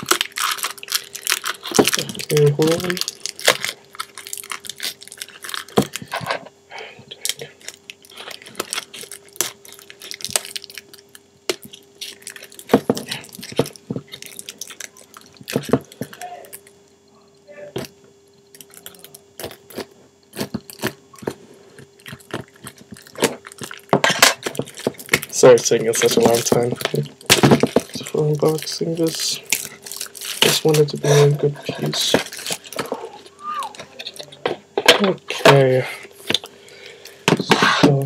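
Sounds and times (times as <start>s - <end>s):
plastic shrink wrap tearing and crinkling: 0.0s - 6.4s, 7.2s - 16.7s, 18.5s - 21.4s, 22.0s - 34.4s
faint steady hum: 0.0s - 38.0s.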